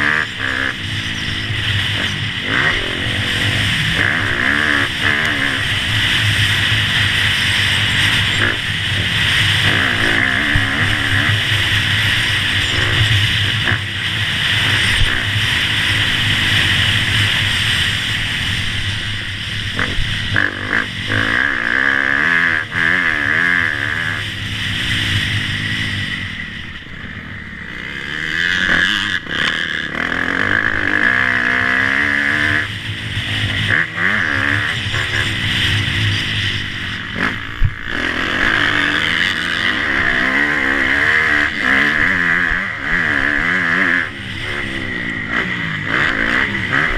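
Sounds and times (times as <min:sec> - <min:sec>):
motocross engines revving: 0:00.0 - 0:46.9.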